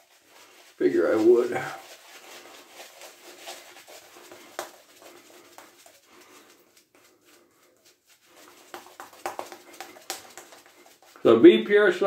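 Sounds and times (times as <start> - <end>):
shaving brush swishing: 0.0 - 12.0.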